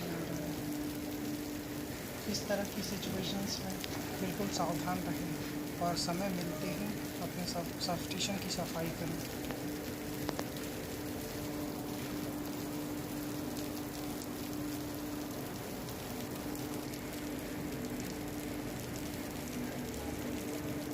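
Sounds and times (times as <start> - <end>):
electrical hum: 0.0 - 20.9
electrical sparking crackle: 0.0 - 20.9.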